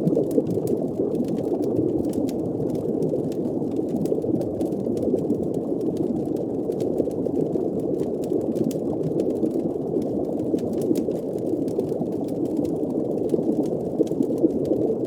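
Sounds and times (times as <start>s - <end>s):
faint fire-like crackles: 0.0s - 15.0s
muffled underwater rushing and bubbling: 0.0s - 15.0s.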